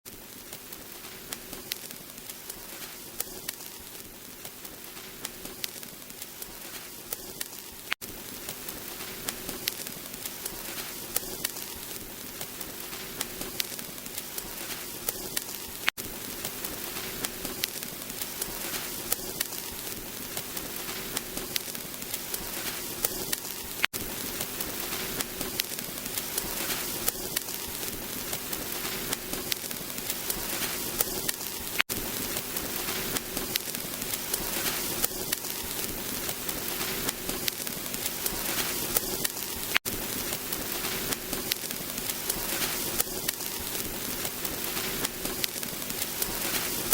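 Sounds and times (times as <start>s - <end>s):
vinyl crackles and pops: 0.0s - 46.9s
vinyl record hiss: 0.1s - 46.9s.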